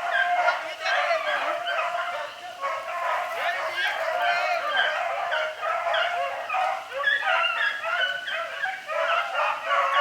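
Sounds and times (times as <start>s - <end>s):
hounds baying and yelping: 1.5s - 10.0s.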